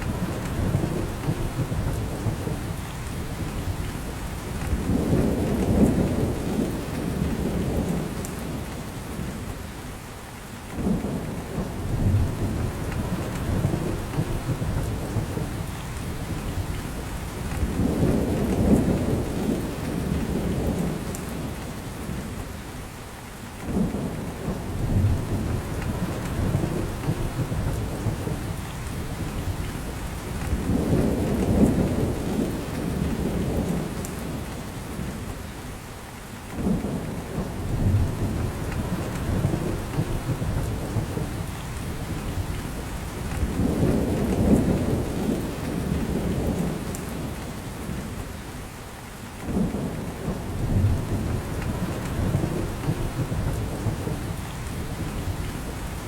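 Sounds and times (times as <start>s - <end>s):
steady rain in forest: 0.0s - 56.0s.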